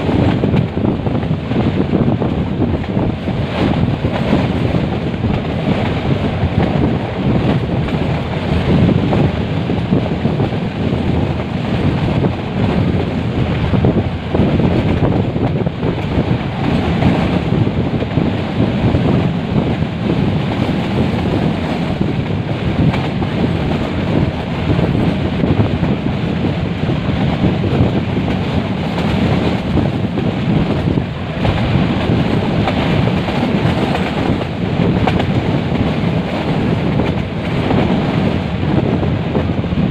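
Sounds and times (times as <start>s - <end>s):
passenger train running: 0.0s - 39.9s
wind buffeting microphone: 0.0s - 39.9s.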